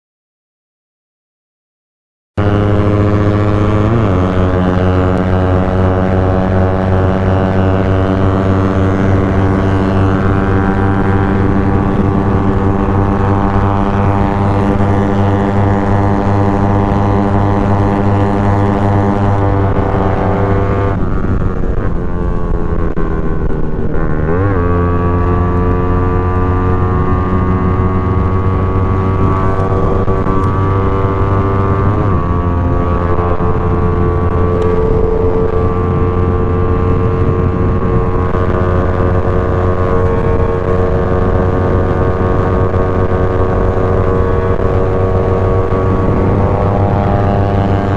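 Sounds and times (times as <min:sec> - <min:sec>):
motorcycle engine droning: 0:02.4 - 0:47.9.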